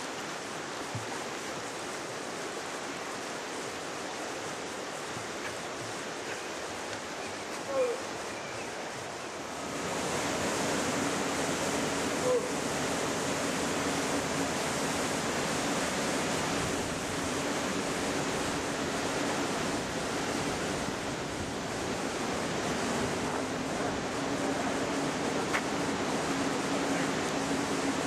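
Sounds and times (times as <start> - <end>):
river rushing over rapids: 0.0 - 28.0.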